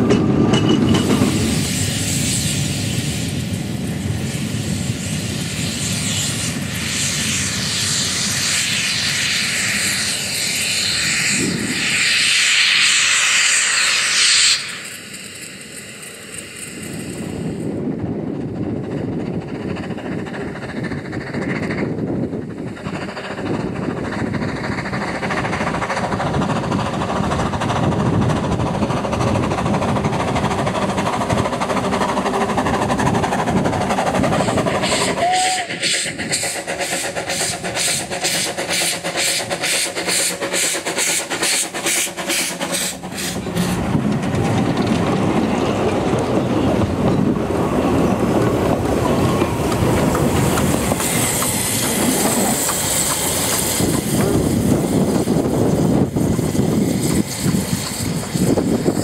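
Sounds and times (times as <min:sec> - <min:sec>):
steam locomotive chuffing: 0:00.0 - 0:59.0
train running noise: 0:00.0 - 0:59.0.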